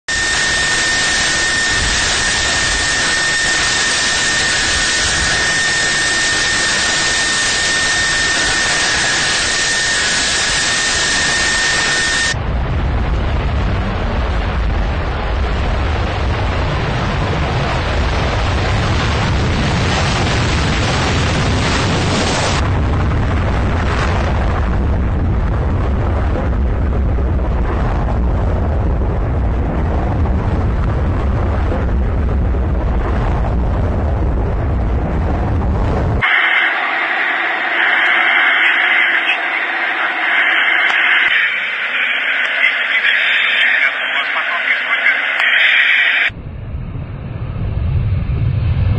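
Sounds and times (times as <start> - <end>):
jet engine hiss and whine: 0.1 - 48.9
jet taking off: 0.1 - 48.9.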